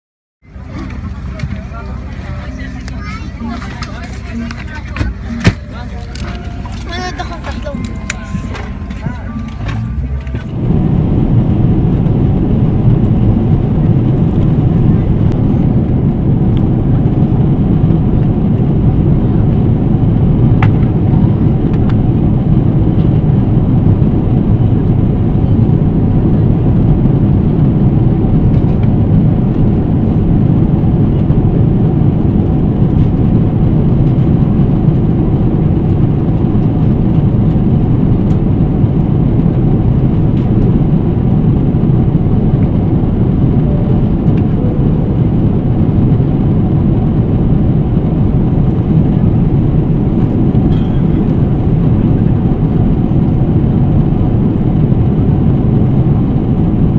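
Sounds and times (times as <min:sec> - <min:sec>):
airliner cabin noise: 0:00.4 - 0:56.9.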